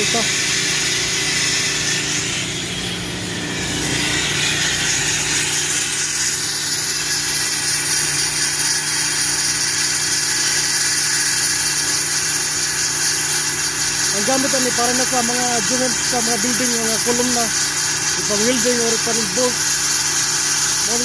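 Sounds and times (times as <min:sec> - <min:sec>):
hissing metal cutting: 0:00.0 - 0:21.0
motor hum: 0:00.0 - 0:21.0.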